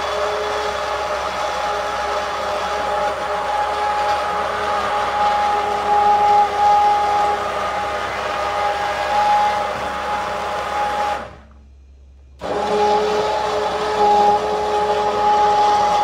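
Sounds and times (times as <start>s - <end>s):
stick blender whining: 0.0s - 11.6s, 12.4s - 16.0s.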